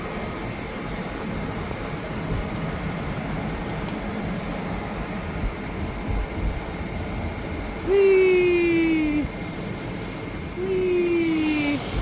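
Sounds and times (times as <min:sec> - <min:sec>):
sailboat rumble and rush: 0:00.0 - 0:12.0
hull thumping on waves: 0:02.2 - 0:12.0.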